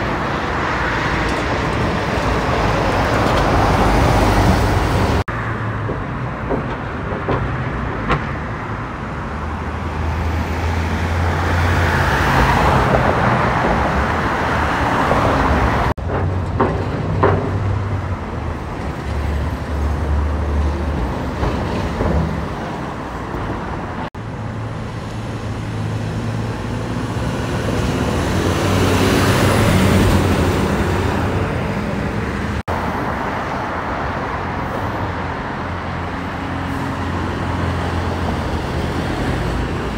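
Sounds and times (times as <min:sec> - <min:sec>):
heavy vehicle engine drones: 0:00.0 - 0:39.9
road traffic passing: 0:00.0 - 0:39.9.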